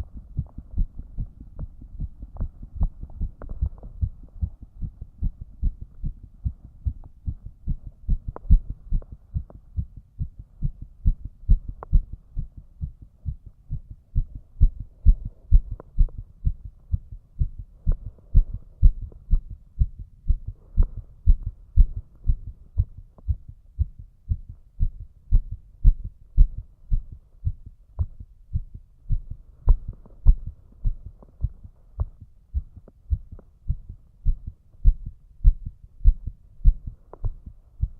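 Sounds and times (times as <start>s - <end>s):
heartbeat thumping: 0.0s - 37.9s.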